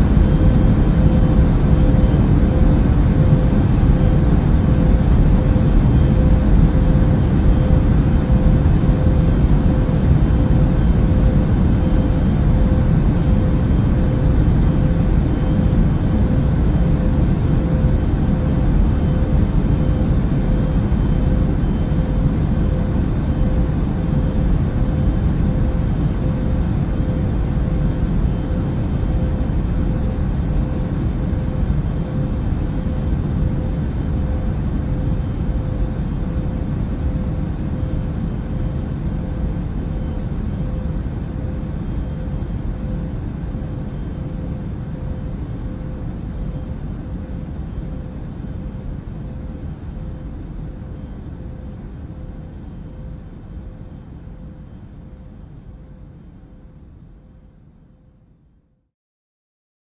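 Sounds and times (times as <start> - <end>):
airliner cabin engine rush: 0.0 - 57.0
faint steady hum: 0.0 - 58.8.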